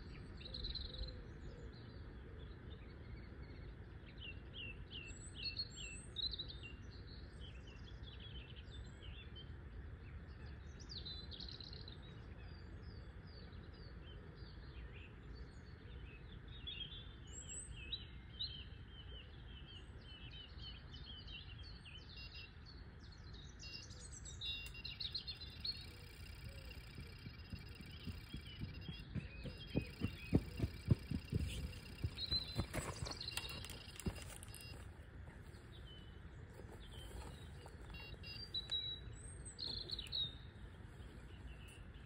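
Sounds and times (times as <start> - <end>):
songbirds chirping and singing: 0.0 - 42.0.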